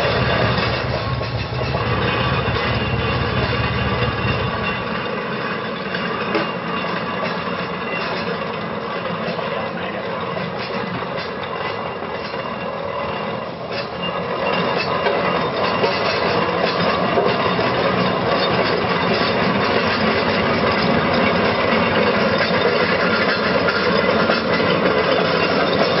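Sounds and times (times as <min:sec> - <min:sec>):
steam roller engine rumble: 0:00.0 - 0:26.0.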